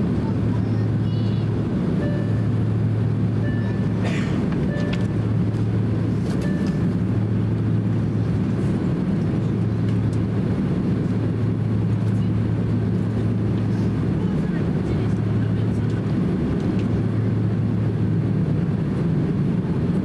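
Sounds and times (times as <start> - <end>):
jet engines idling in cabin: 0.0 - 20.0.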